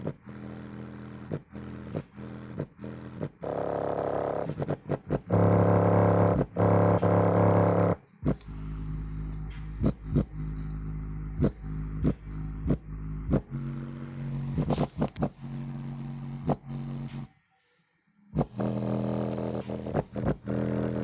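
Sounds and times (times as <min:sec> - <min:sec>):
subwoofer playing bass pulses: 0:00.0 - 0:17.3, 0:18.4 - 0:21.0.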